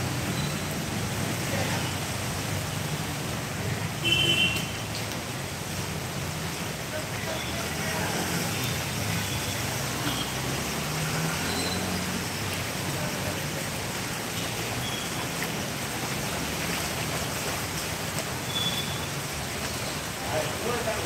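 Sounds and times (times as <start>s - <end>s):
heavy rain and floodwater rushing: 0.0s - 21.0s
vehicles driving through water: 0.0s - 21.0s.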